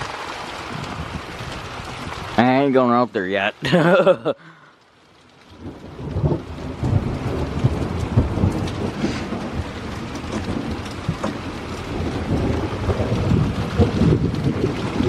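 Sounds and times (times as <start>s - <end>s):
wind gusts buffeting microphone: 0.0s - 3.0s, 5.5s - 15.0s
heavy rain hiss: 0.0s - 15.0s.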